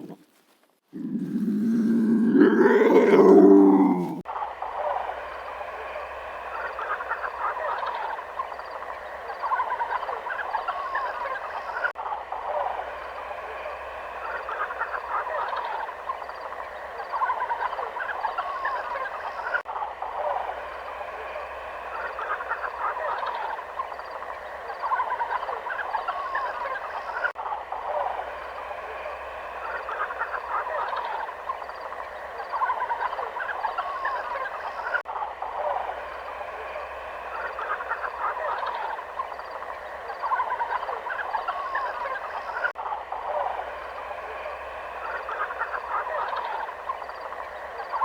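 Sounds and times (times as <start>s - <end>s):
chorus of animal calls: 0.9s - 48.0s.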